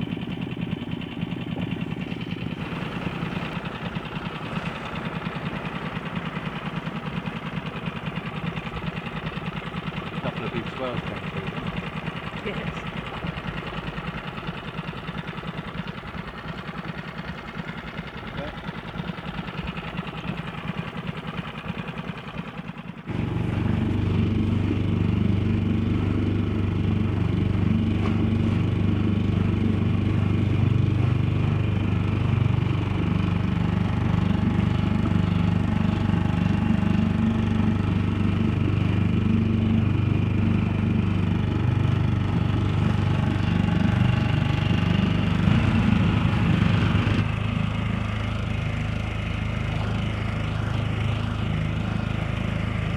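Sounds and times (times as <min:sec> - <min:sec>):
small outboard motor running: 0:00.0 - 0:52.9.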